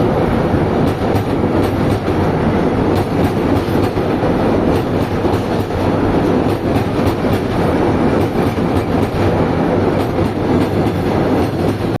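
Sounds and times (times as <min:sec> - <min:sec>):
train wagons rolling past: 0:00.0 - 0:12.0
wheels clacking over rail joints: 0:00.8 - 0:12.0.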